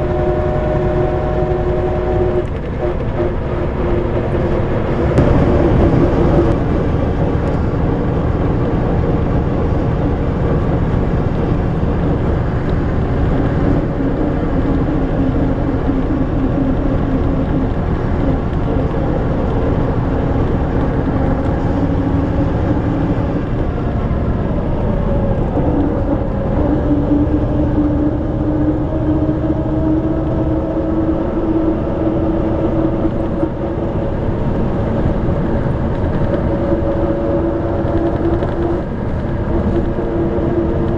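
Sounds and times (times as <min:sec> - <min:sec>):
diesel bus engine running: 0:00.0 - 0:40.9.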